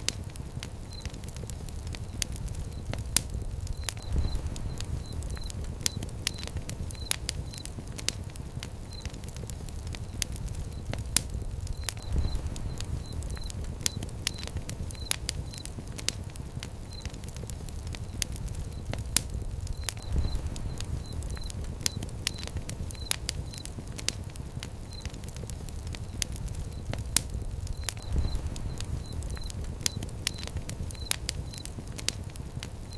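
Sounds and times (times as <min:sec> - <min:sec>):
low rumble of flame: 0:00.0 - 0:32.9
wood fire crackling and popping: 0:00.0 - 0:32.9.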